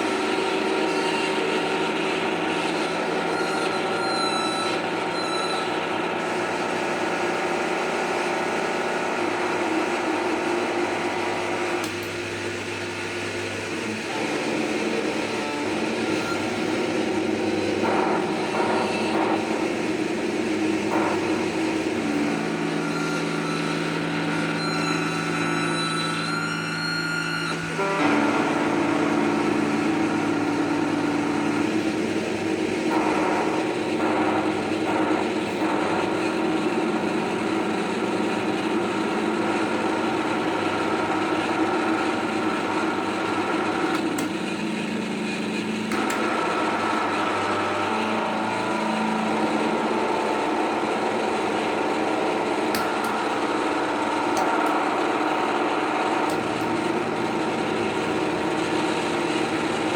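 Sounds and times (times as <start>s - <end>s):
harsh noise drone from effects pedals: 0.0s - 59.9s.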